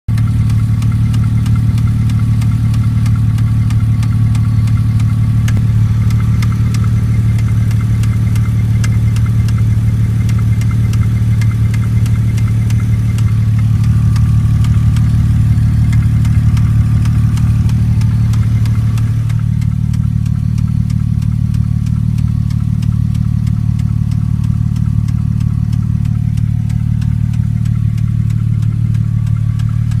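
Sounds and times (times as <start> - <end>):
car engine idling: 0.1 - 30.0
fast steady engine ticking: 0.1 - 30.0.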